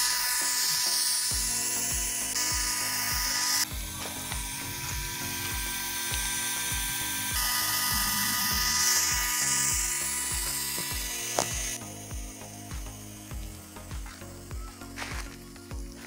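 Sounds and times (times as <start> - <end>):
background music with steady beat: 0.0 - 16.0
water pump motor whining: 0.0 - 16.0.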